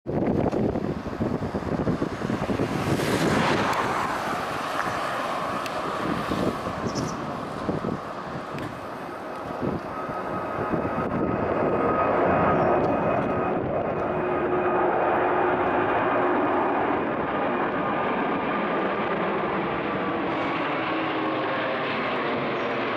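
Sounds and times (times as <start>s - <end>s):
wind rumble on microphone: 0.0s - 20.8s
jet airliner passing overhead: 0.1s - 22.9s.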